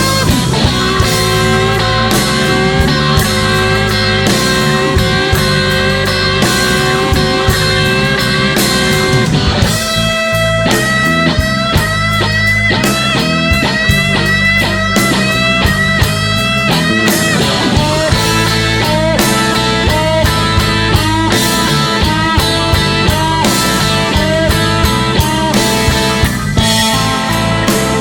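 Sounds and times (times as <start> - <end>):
bass and drums: 0.0 - 28.0
lead guitar solo: 0.0 - 28.0.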